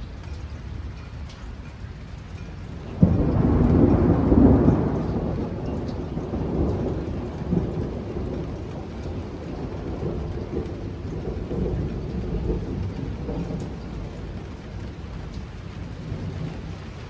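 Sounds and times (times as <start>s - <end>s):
heavy rain: 0.0s - 17.0s
thunder rumbling: 2.6s - 17.0s.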